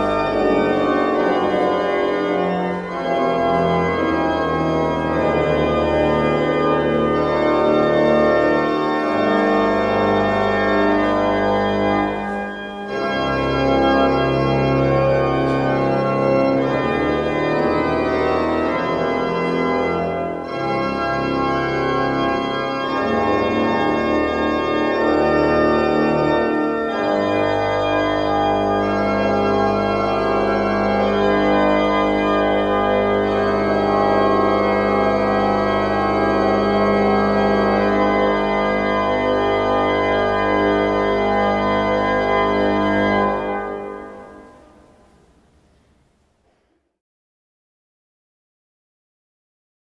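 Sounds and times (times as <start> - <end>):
church organ chords: 0.0 - 45.7.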